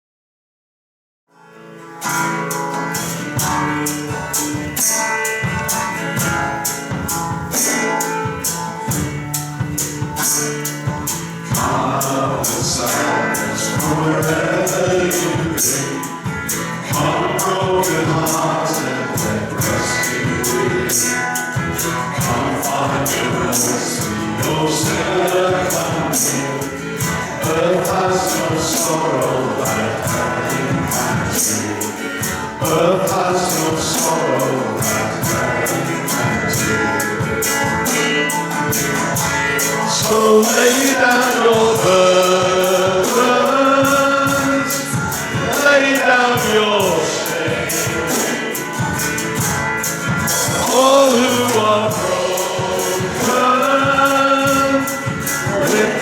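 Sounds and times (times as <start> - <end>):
worship band playing: 1.7 - 56.0
tambourine-like percussion beat: 2.0 - 56.0
person singing melody: 11.1 - 56.0.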